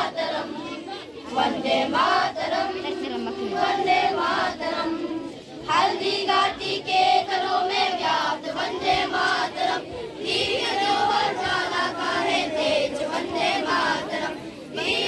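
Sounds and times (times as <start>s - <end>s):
children singing in chorus: 0.0s - 15.0s.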